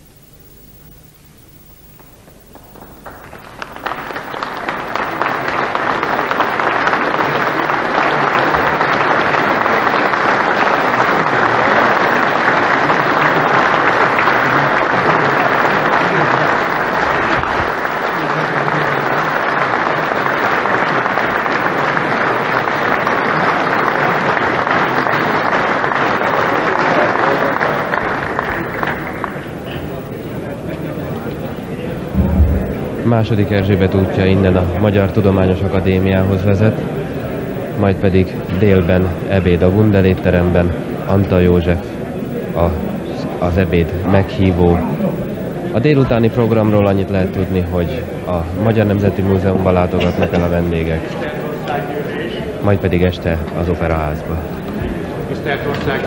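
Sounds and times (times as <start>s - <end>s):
large crowd applauding: 2.5s - 41.6s, 46.2s - 53.1s.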